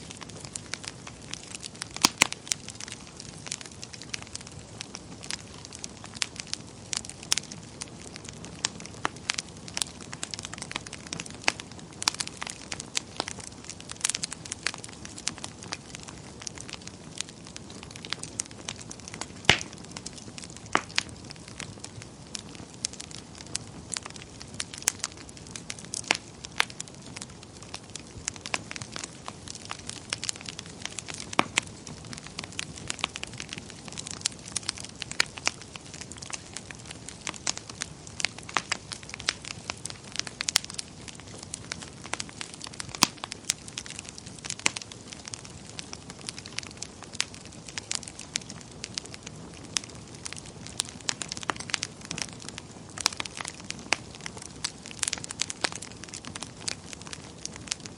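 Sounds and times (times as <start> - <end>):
fire flames rushing: 0.0 - 57.9
logs crackling and popping: 0.0 - 57.9.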